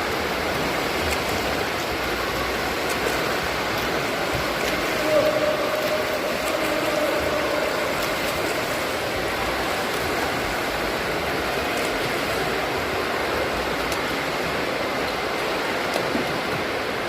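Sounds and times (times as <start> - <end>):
swimmers splashing in pool water: 0.0 - 17.0.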